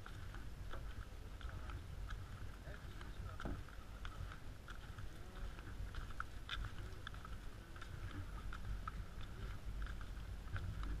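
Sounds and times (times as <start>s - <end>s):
flip-flop footsteps on wooden boards: 0.0s - 11.0s
low steady rumble: 0.0s - 11.0s.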